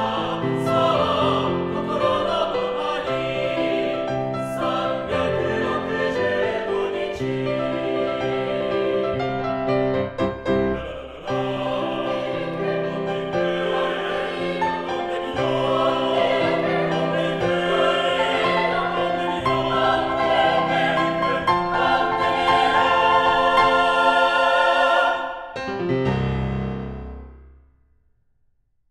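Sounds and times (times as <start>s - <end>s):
mixed choir singing: 0.0s - 9.8s, 10.5s - 25.6s
piano: 0.0s - 28.4s.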